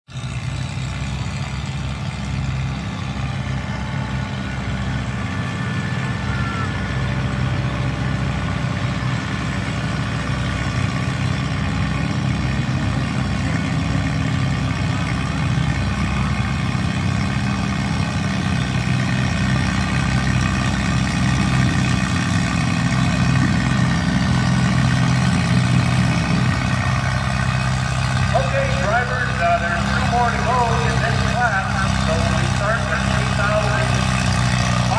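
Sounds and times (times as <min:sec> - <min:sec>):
tractor engine under load: 0:00.1 - 0:34.9.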